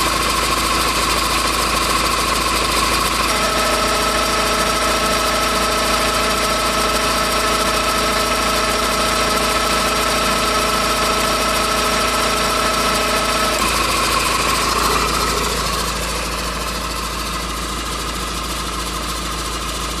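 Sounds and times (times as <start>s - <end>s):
car engine hum: 0.0s - 20.0s
car whirring whine: 0.0s - 20.0s.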